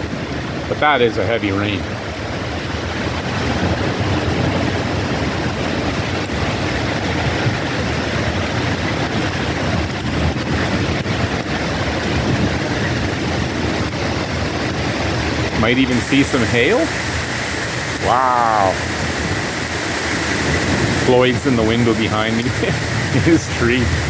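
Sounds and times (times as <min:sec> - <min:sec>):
heavy rain pouring: 0:00.0 - 0:24.0
wind rumbling low: 0:01.8 - 0:24.0.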